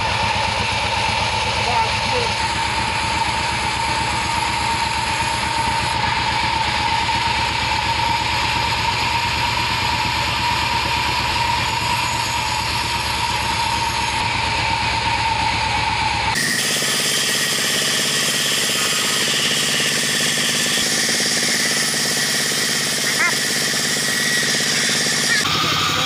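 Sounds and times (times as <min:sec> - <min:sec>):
band saw whine: 0:00.0 - 0:26.0
low chug of drive engine: 0:00.0 - 0:26.0.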